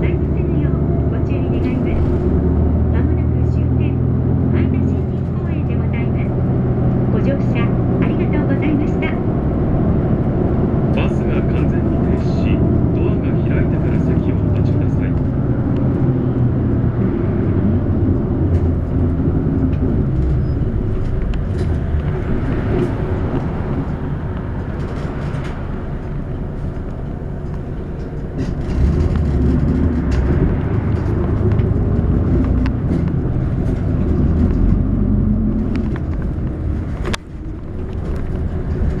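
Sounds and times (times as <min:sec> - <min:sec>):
bus engine running: 0:00.0 - 0:39.0
road noise: 0:00.0 - 0:39.0.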